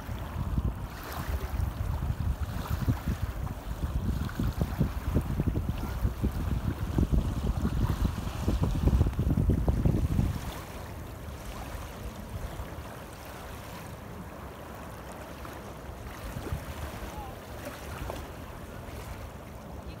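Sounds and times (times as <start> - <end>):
wind buffeting microphone: 0.0 - 14.8, 15.9 - 20.0
choppy water lapping: 0.0 - 20.0.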